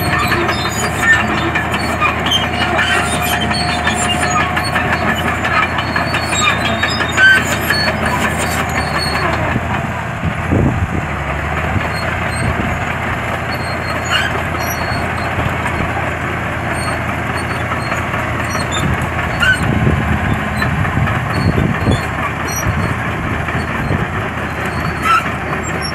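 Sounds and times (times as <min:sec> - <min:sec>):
diesel engine droning: 0:00.0 - 0:25.9.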